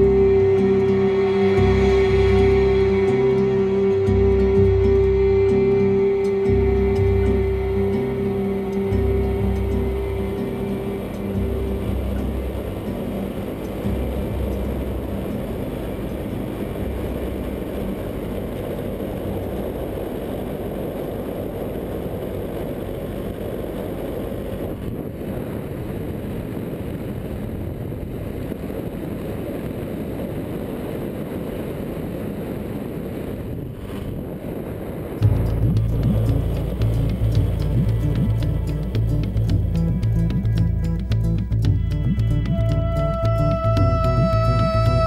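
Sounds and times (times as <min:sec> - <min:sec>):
paramotor engine rumble: 0:00.0 - 0:25.9, 0:34.1 - 0:45.0
wind rush on microphone: 0:00.0 - 0:45.0.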